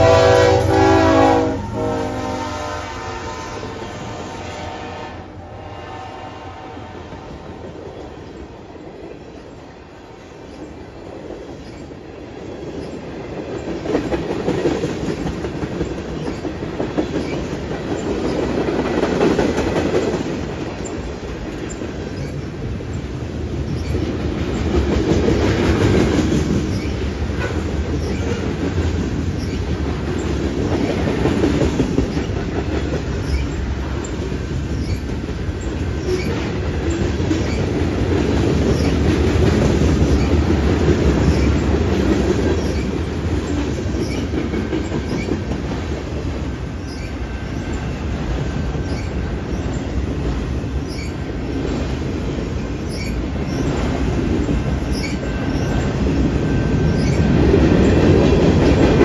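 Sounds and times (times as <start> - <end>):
low train rumble: 0.0 - 59.0
wheels clattering over rail joints: 10.4 - 47.7, 48.4 - 59.0.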